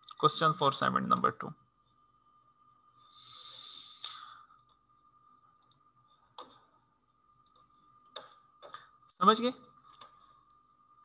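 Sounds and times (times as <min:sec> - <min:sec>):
soft hiss: 0:00.1 - 0:10.8.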